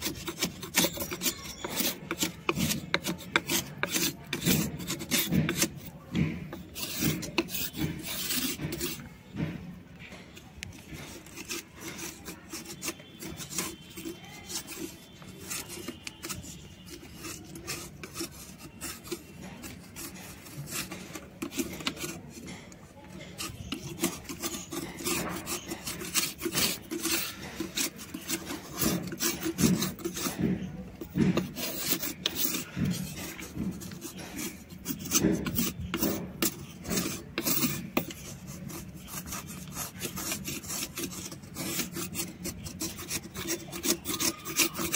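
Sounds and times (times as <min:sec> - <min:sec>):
knife scraping soft stone: 0:00.0 - 0:09.6, 0:10.3 - 0:44.9.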